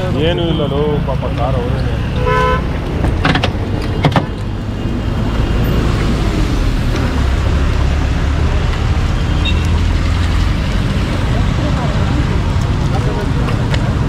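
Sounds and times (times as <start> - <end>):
car rumbling on road: 0.0 - 14.0.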